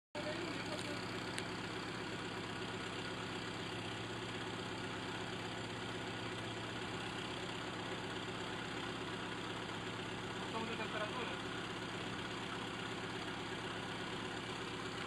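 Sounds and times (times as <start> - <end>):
car engine idling: 0.2 - 15.0.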